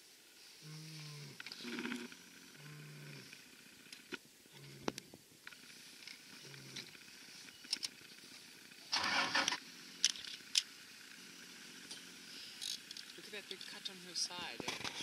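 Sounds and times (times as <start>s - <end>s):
vehicle engine: 0.0s - 15.0s.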